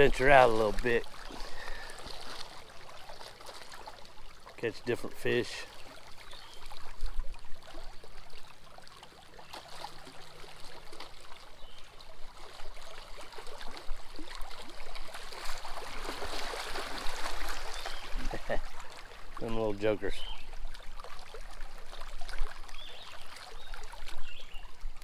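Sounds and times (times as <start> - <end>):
small waves lapping against rocks: 0.0 - 25.0.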